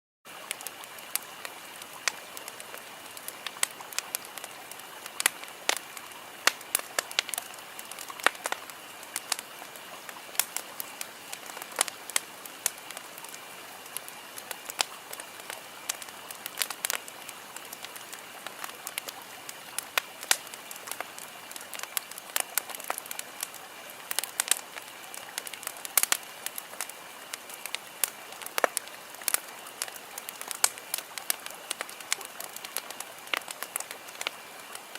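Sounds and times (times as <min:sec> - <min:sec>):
campfire crackling and popping: 0:00.3 - 0:34.9.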